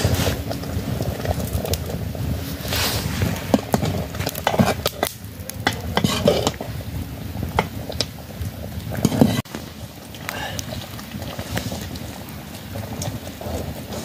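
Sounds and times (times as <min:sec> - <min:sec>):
rice boiling in a pot: 0:00.0 - 0:14.0.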